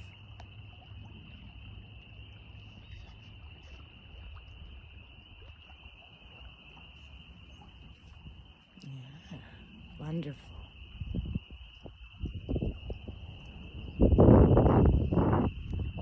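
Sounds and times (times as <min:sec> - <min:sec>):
frogs trilling: 0:00.0 - 0:16.0.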